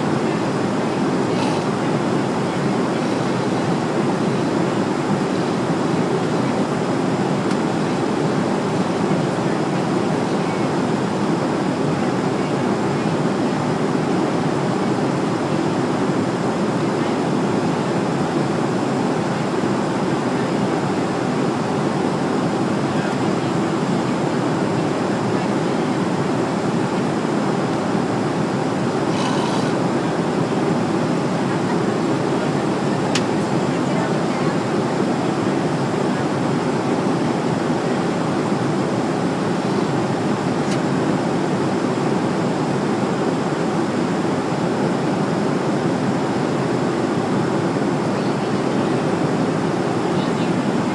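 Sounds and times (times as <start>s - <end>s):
jet airliner cabin roar: 0.0s - 50.9s.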